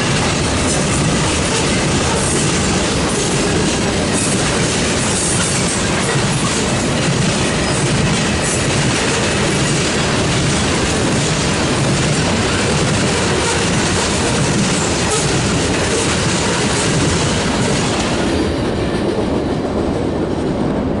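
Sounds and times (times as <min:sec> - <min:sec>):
train wheels clattering on rail: 0:00.0 - 0:21.0.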